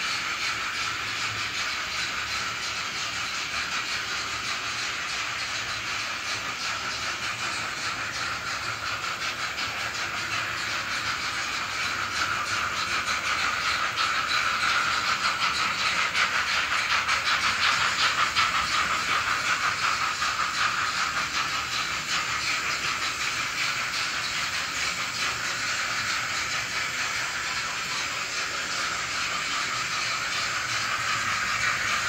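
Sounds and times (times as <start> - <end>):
steam engine chuffing from small speaker: 0.0 - 32.0.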